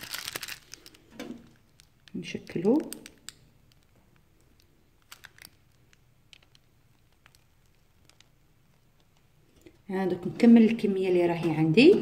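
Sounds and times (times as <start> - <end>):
piping bag clicks and rustles: 0.0 - 9.8.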